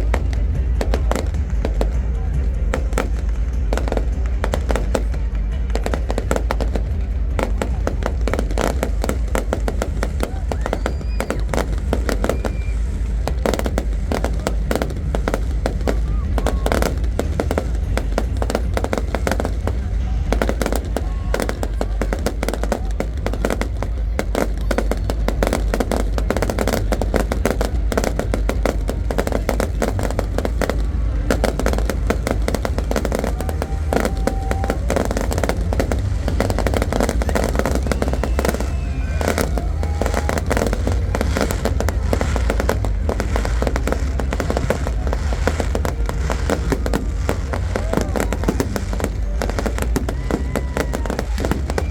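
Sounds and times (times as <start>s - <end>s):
fireworks crackling and popping: 0.0s - 51.9s
low rumble: 0.0s - 51.9s.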